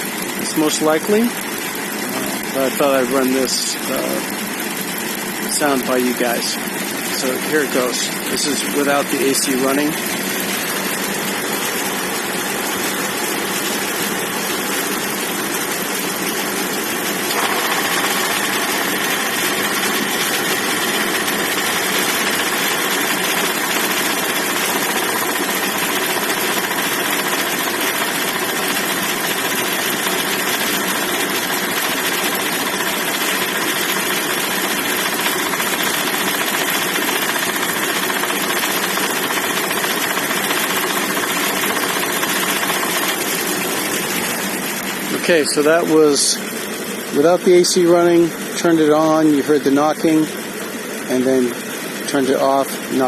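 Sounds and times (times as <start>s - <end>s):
compressor knocking: 0.0s - 45.8s
engine idling: 0.0s - 49.3s.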